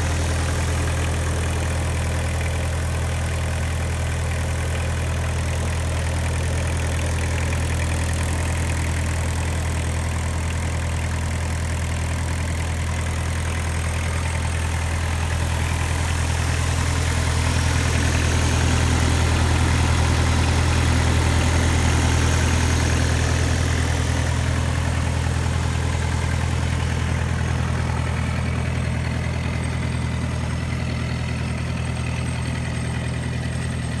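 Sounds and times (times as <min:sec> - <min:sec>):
diesel mower engine idling: 0:00.0 - 0:34.0.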